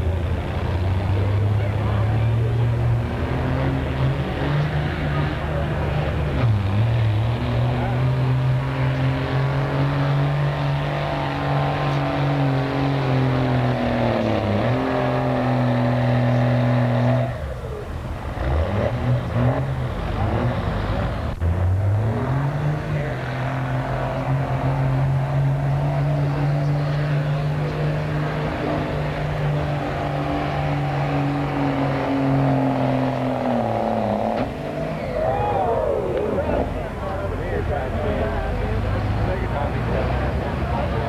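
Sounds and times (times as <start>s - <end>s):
pickup truck engine revving: 0.0s - 41.0s.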